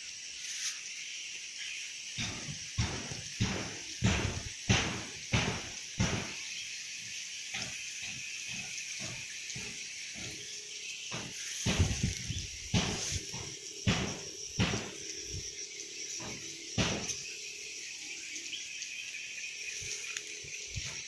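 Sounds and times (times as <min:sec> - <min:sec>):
swiftlets chirring: 0:01.6 - 0:21.0.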